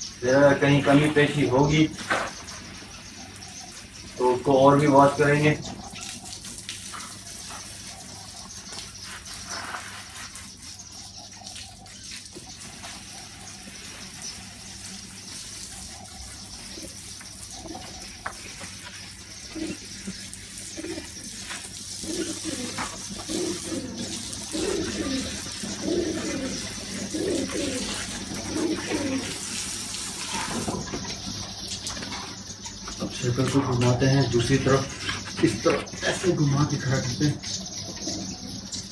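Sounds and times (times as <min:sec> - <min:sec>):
hose water splashing: 0:00.0 - 0:38.9
pigeons cooing: 0:00.0 - 0:38.9.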